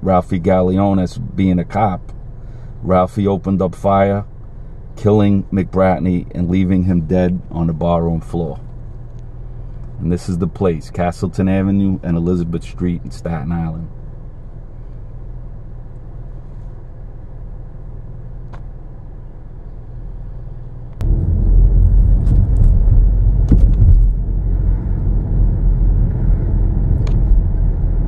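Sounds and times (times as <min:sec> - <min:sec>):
car driving with road noise: 0:00.0 - 0:28.0
car engine idling: 0:00.0 - 0:28.0.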